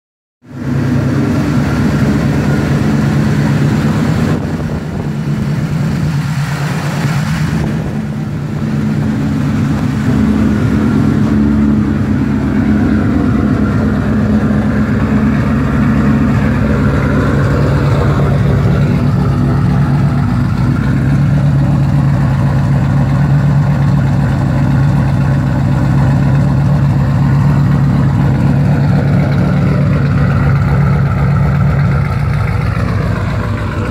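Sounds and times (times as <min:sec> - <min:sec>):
car engine running on dyno: 0:00.5 - 0:33.9.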